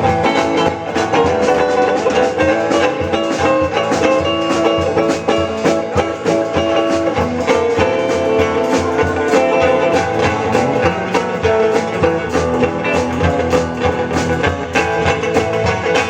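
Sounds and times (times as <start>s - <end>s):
electric guitar: 0.0s - 16.0s
steady drum beat: 0.0s - 16.0s.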